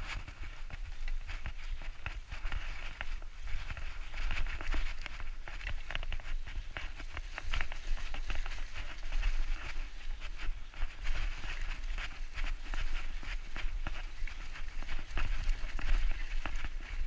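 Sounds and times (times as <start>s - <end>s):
bike clicks and rattles: 0.0s - 17.0s
tyres crunching over dirt: 0.0s - 17.0s
wind rumble on microphone: 0.0s - 17.0s.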